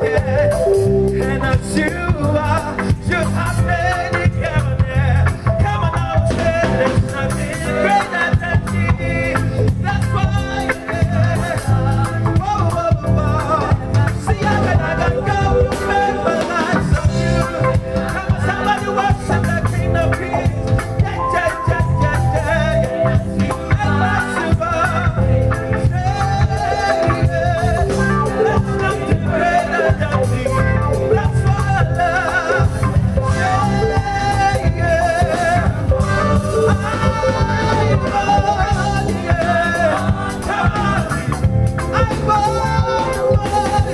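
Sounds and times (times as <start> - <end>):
bass guitar: 0.0 - 43.9
drum kit: 0.0 - 43.9
electric lead guitar: 0.0 - 43.9
keyboards: 0.0 - 43.9
voices singing: 0.0 - 43.9.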